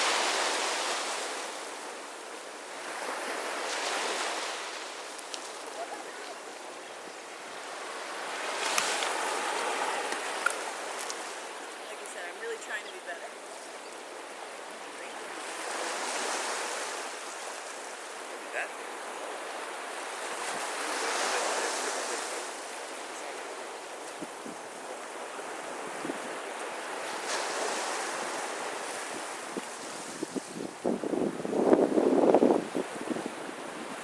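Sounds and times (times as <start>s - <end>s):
sea waves washing onto beach: 0.0s - 34.0s.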